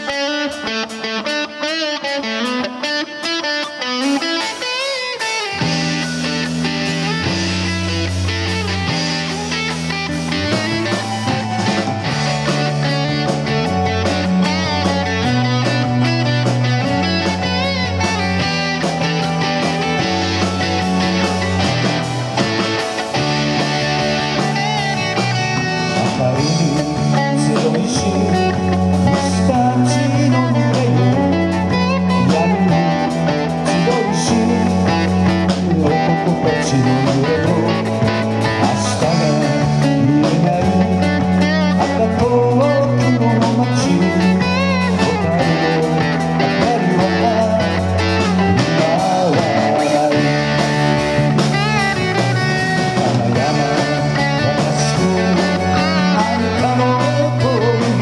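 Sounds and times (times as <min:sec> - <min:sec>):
bending guitar lead line: 0:00.0 - 0:58.0
live rock band playing: 0:00.0 - 0:58.0.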